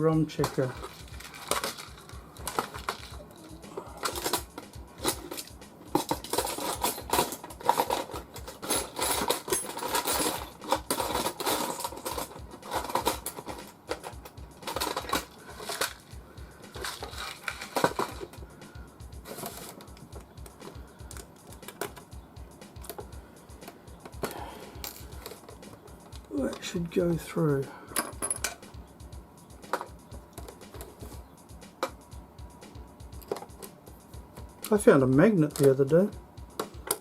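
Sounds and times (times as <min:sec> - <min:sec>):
small hard parts clicking: 0:00.4 - 0:28.9, 0:29.5 - 0:37.0.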